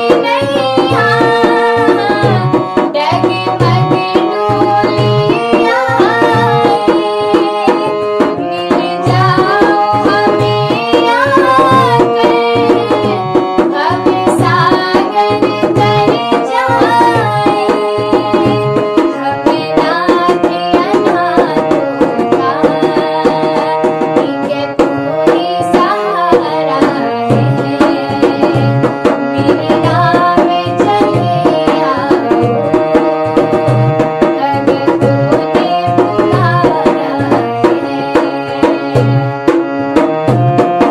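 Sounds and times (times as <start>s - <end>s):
tabla rhythm: 0.0s - 40.9s.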